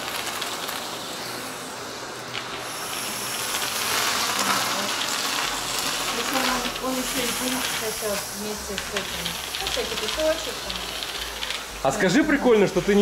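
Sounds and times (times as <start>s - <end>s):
air rushing through vacuum hose: 0.0s - 13.0s
vacuum cleaner motor: 0.0s - 13.0s.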